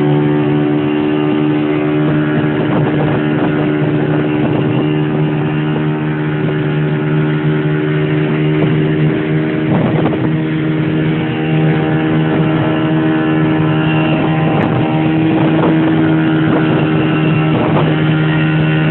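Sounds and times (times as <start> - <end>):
boat motor running: 0.0 - 18.9.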